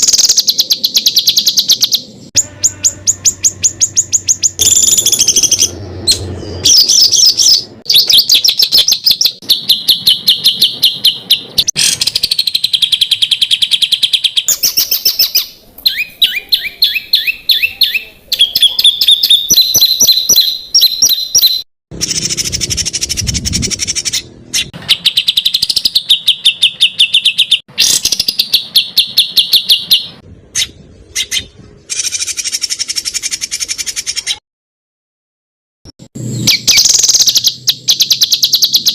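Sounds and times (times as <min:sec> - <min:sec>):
songbird fast trills: 0:00.0 - 0:34.4.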